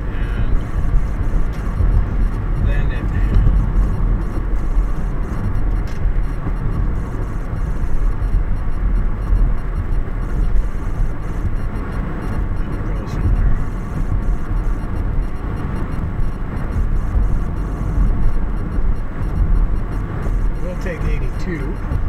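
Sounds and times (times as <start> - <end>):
car tyres and engine rumble: 0.0 - 22.0.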